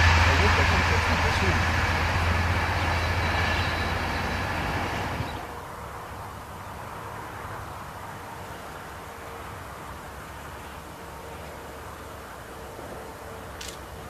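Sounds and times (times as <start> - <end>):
diesel train engine rumbling: 0.0 - 14.0
open-air background: 0.0 - 14.0.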